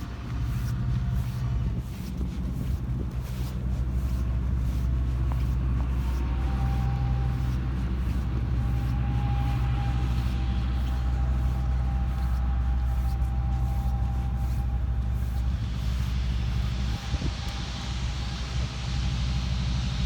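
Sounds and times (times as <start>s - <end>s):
faint high whine: 0.0s - 20.0s
low engine hum: 0.0s - 20.0s.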